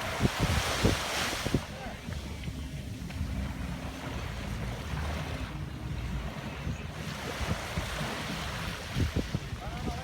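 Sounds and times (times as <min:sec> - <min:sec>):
ocean waves washing on shore: 0:00.0 - 0:10.0
wind rumbling on microphone: 0:00.0 - 0:10.0.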